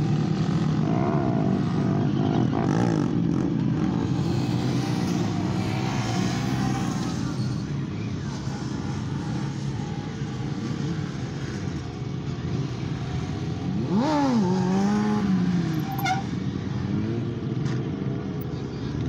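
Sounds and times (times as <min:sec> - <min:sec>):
motorcycle engine revving: 0:00.0 - 0:17.8
motorcycle engines running: 0:00.0 - 0:19.0.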